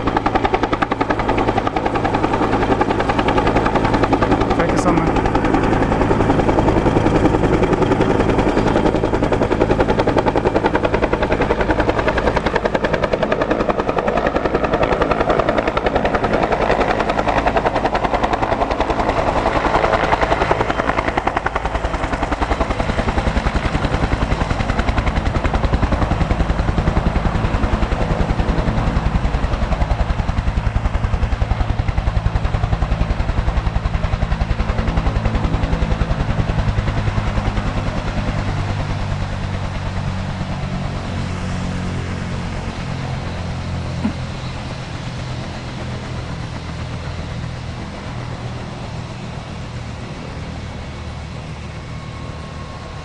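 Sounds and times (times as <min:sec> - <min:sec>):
helicopter rotor beating: 0:00.0 - 0:53.0
turbine engine: 0:00.0 - 0:53.0.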